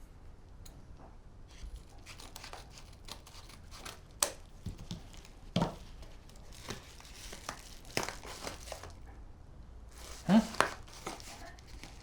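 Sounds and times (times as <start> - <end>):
packaging rustling and crinkling: 1.5 - 9.1, 9.9 - 12.0.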